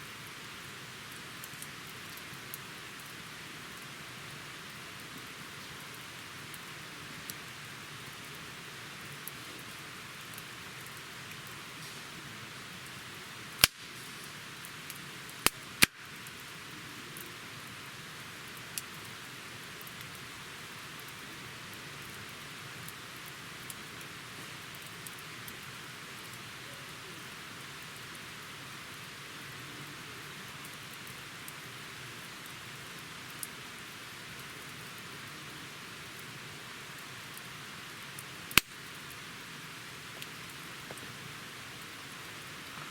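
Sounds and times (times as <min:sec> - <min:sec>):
campfire hissing: 0:00.0 - 0:42.9
fire crackling and popping: 0:00.0 - 0:42.9.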